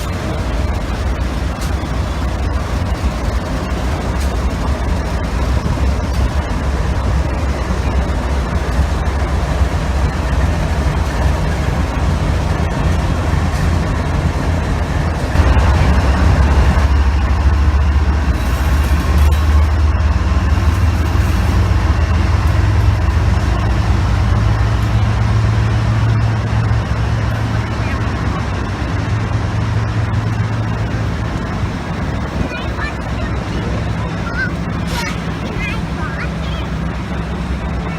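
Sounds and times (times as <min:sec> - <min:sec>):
freight train rumbling past: 0:00.0 - 0:37.9.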